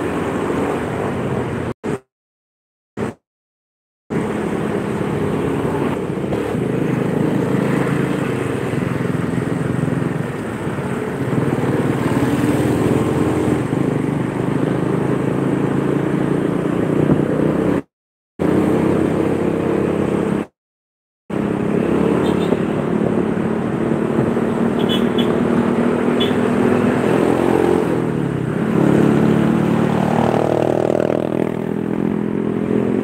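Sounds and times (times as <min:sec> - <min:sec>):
road and wind noise: 0:00.0 - 0:02.1, 0:03.0 - 0:03.2, 0:04.1 - 0:20.6, 0:21.3 - 0:33.0.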